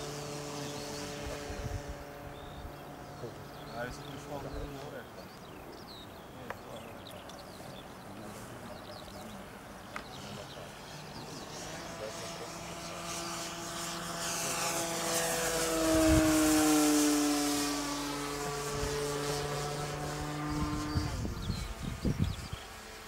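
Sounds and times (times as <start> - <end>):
model plane motor and propeller whine: 0.0 - 23.0.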